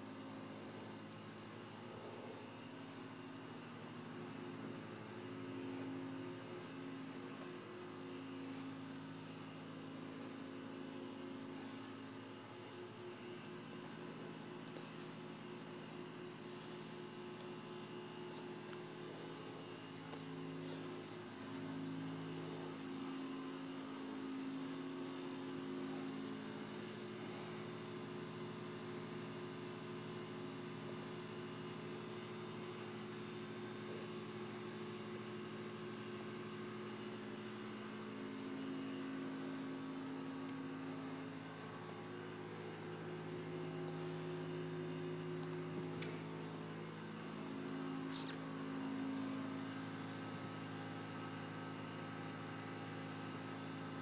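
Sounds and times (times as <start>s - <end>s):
low multi-tone hum: 0.0s - 54.0s.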